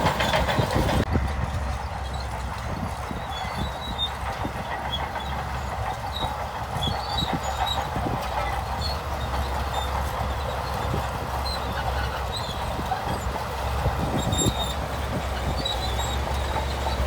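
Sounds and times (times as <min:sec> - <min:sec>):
bulldozer diesel rumble: 0:00.0 - 0:17.0
steel tracks clanking: 0:00.0 - 0:17.0.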